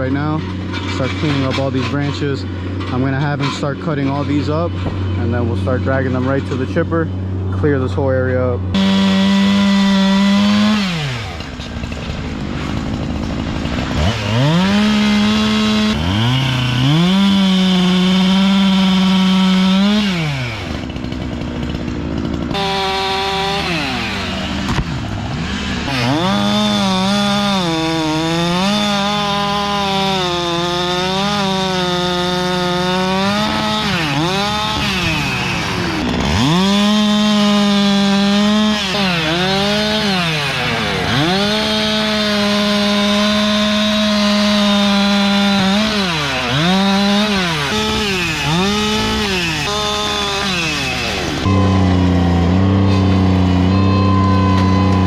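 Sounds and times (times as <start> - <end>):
chainsaw cutting logs: 0.0 - 55.0.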